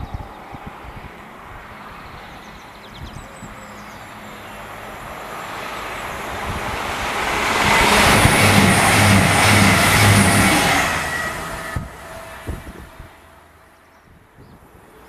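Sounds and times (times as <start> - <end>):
pulsing low engine hum: 0.0 - 13.7
train passing at speed: 0.0 - 14.0.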